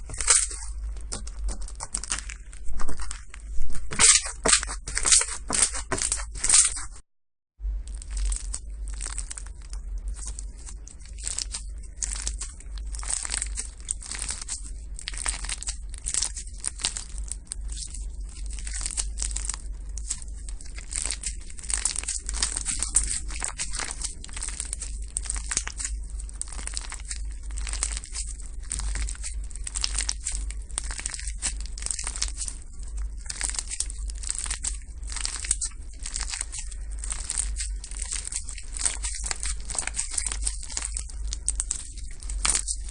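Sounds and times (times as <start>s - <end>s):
low hum: 0.0s - 7.0s, 7.6s - 42.9s
slime crackling and popping: 0.0s - 7.0s, 7.6s - 42.9s.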